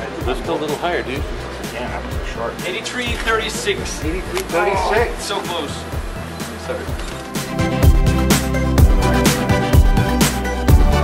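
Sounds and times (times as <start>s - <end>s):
music with steady drum beat: 0.0s - 11.0s.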